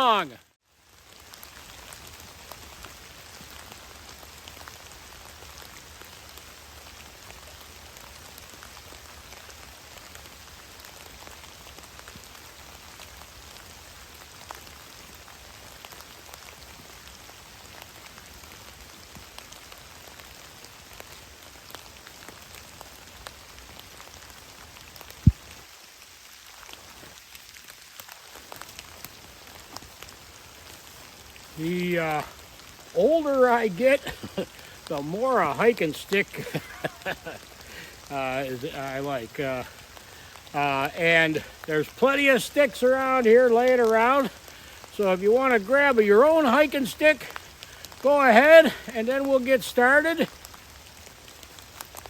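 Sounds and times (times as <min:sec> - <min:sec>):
rain pattering in woods: 0:00.0 - 0:52.0.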